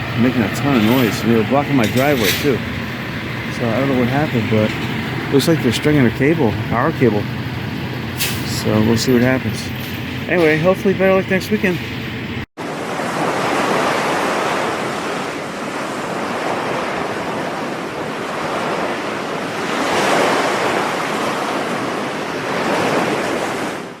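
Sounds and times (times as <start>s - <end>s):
ocean surf washing in: 0.0s - 24.0s.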